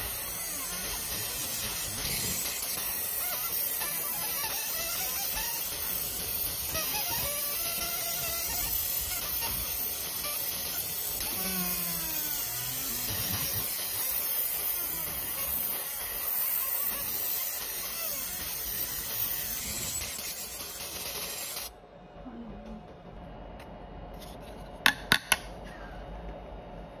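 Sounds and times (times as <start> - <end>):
laser engraver hissing: 0.0 - 21.8.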